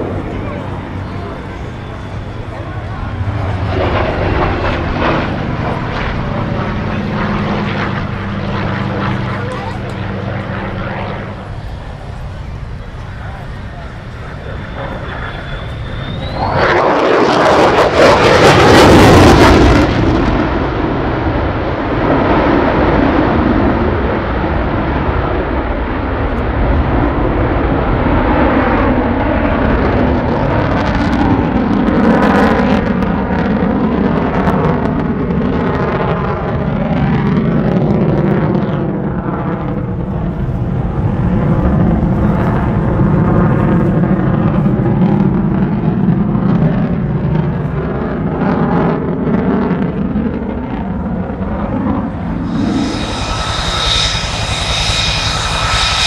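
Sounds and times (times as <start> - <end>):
fighter jet roaring overhead: 0.0 - 56.0.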